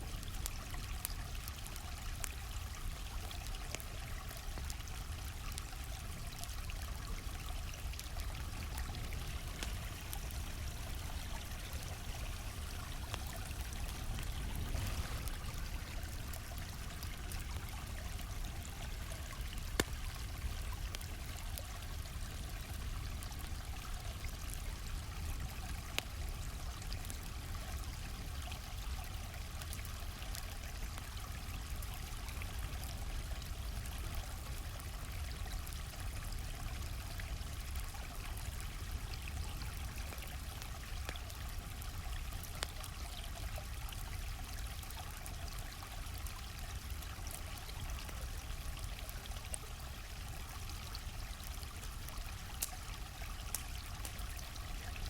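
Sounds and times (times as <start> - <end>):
stream rushing and trickling: 0.0 - 55.0
campfire crackling pops: 0.1 - 55.0.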